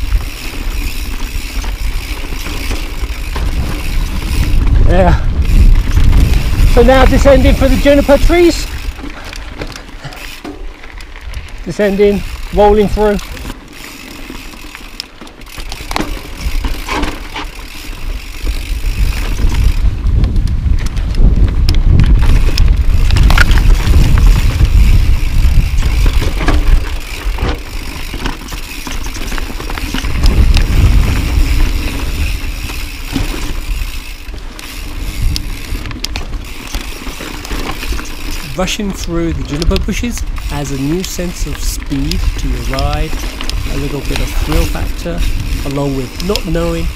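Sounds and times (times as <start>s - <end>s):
bike rattling and knocking: 0.0s - 46.9s
bike tyres rumbling over dirt: 0.0s - 46.9s.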